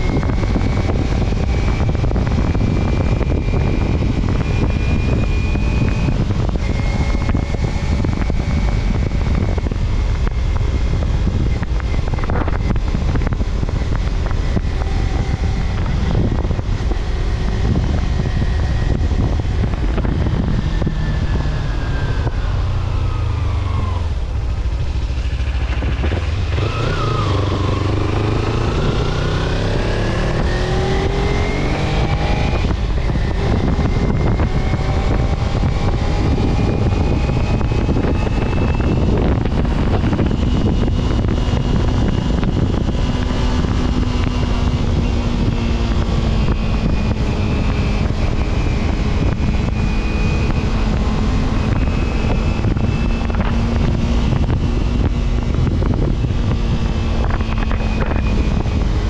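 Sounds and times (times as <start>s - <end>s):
road and wind rumble: 0.0s - 59.0s
vehicle engine accelerating: 0.0s - 59.0s.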